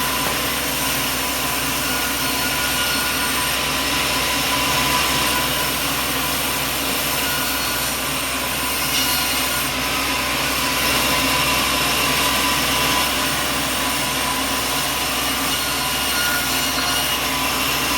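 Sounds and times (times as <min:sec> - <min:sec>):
sawmill machinery droning: 0:00.0 - 0:17.9.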